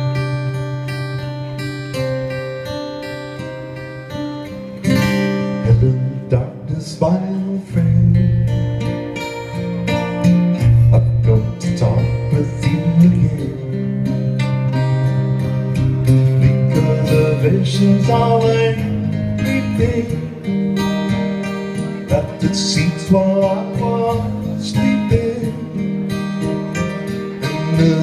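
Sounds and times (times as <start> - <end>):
acoustic guitar strummed and picked: 0.0 - 28.0.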